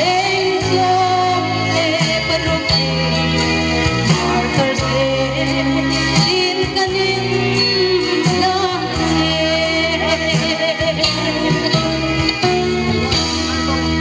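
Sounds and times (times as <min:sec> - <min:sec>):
woman singing: 0:00.0 - 0:12.5
held bass notes: 0:00.0 - 0:14.0
instrumental accompaniment: 0:00.0 - 0:14.0.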